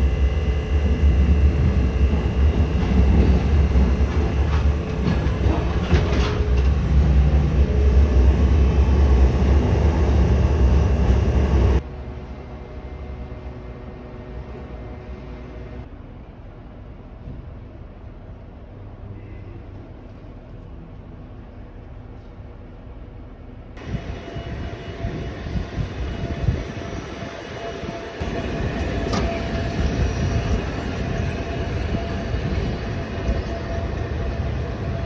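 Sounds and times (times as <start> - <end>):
train rumbling: 0.0 - 22.2, 23.8 - 35.0.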